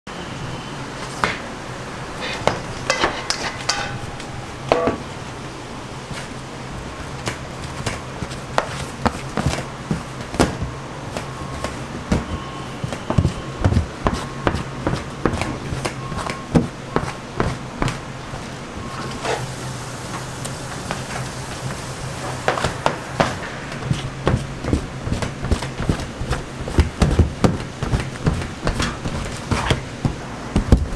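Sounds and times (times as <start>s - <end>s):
steady low hum: 0.1s - 30.9s.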